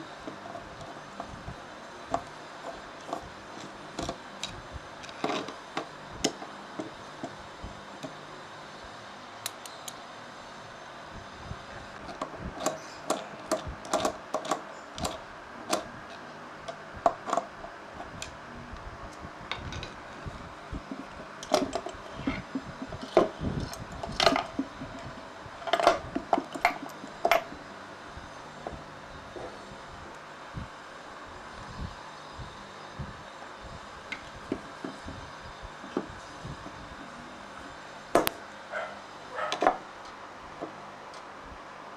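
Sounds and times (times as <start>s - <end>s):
steady background hiss: 0.0s - 41.9s.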